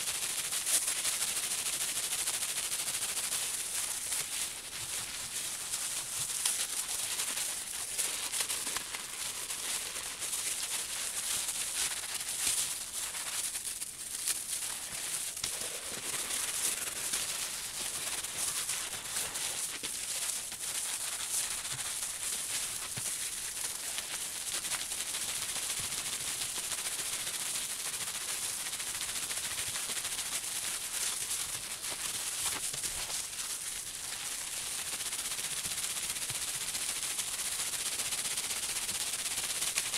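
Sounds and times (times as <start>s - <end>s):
felt rubbing on bubble wrap: 0.0s - 39.9s.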